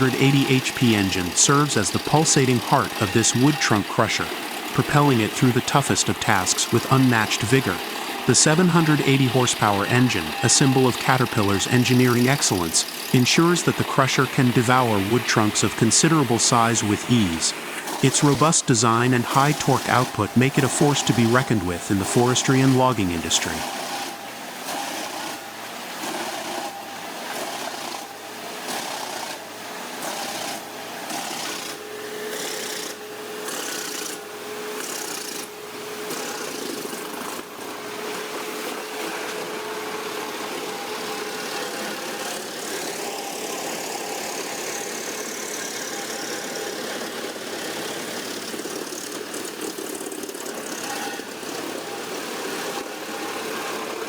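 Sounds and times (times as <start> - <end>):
wood crusher running: 0.0 - 54.0.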